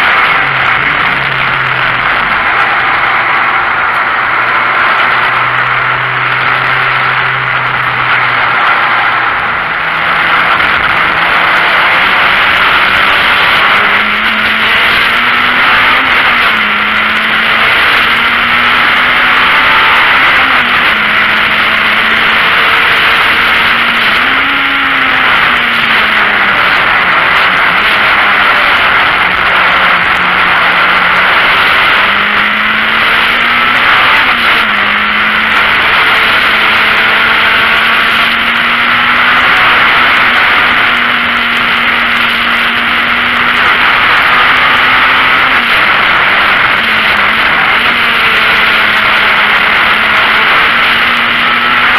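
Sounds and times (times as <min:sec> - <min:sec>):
race car engine running hard: 0:00.0 - 0:51.9
wind and road noise: 0:00.0 - 0:51.9.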